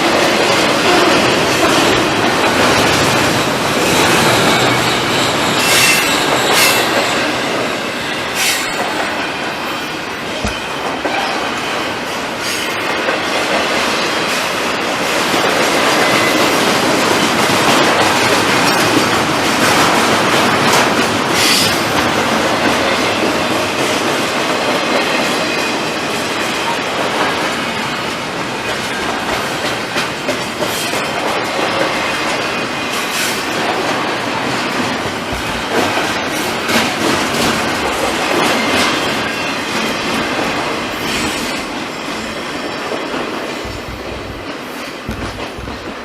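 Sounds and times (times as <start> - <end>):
freight train cars on rails: 0.0 - 46.0.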